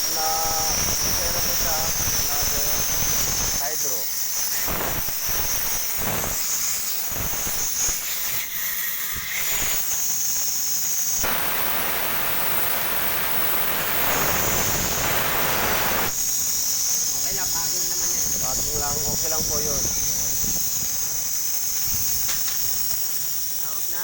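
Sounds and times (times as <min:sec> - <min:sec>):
gas hissing from cylinder valve: 0:00.0 - 0:24.0.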